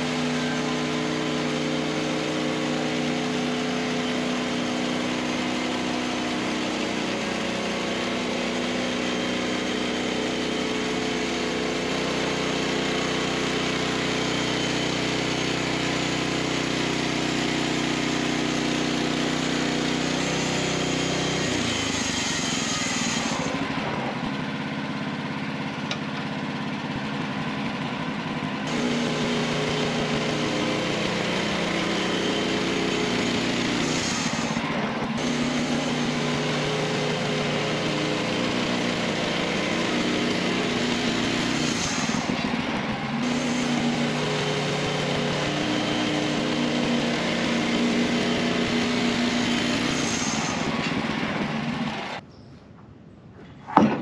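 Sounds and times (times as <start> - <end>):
band sawmill sawing log: 0.0 - 52.2.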